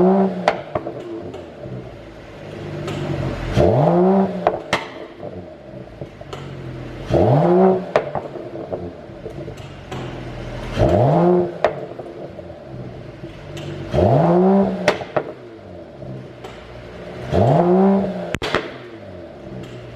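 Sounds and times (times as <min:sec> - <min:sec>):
car engine revving: 0:00.0 - 0:19.9
sharp exhaust pops: 0:00.0 - 0:19.9.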